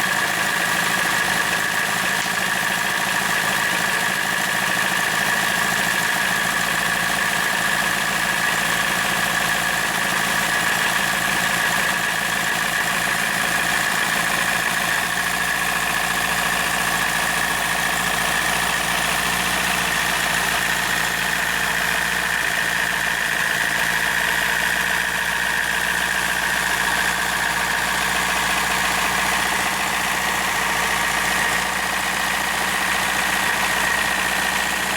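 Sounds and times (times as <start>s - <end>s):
model engine running with whine: 0.0s - 34.9s.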